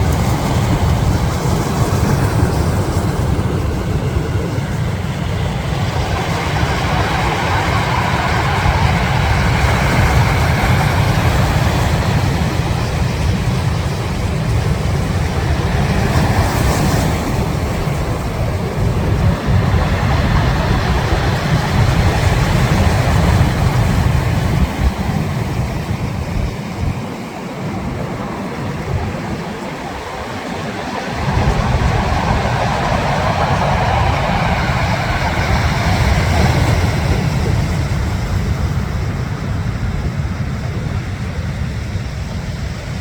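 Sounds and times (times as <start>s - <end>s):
sea noise: 0.0s - 43.0s
wind buffeting microphone: 0.0s - 43.0s.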